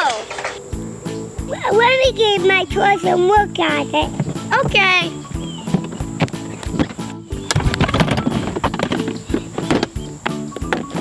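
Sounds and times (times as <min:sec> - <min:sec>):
background music with clip-clop beat: 0:00.6 - 0:11.0.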